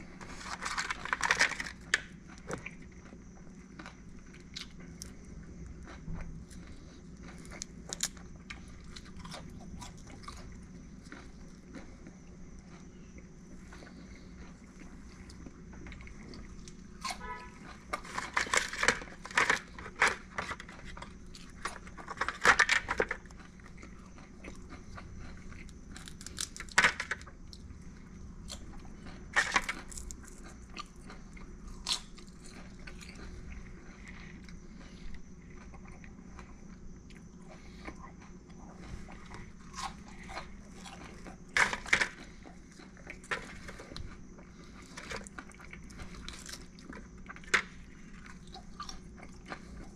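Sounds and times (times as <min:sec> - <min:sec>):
crunching of crab being chewed: 0:00.0 - 0:49.9
faint steady hum: 0:00.0 - 0:49.9.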